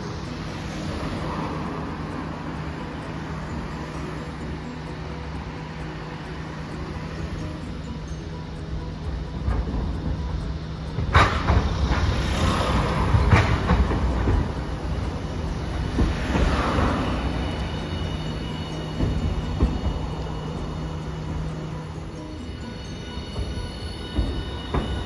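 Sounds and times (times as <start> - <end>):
tram running rumble: 0.0 - 25.0
tram wheel clacks: 0.0 - 25.0.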